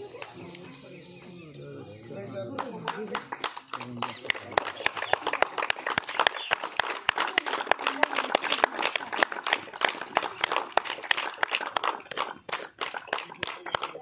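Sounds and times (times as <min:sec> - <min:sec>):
people clapping: 0:00.0 - 0:01.3, 0:02.3 - 0:14.0.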